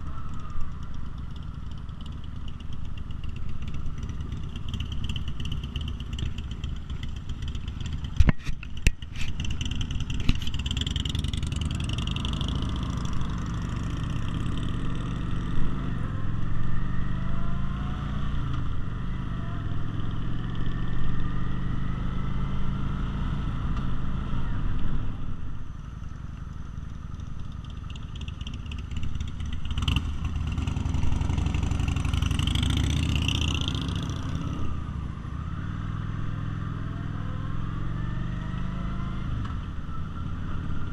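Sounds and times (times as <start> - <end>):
motorcycle engines running: 0.0 - 40.9.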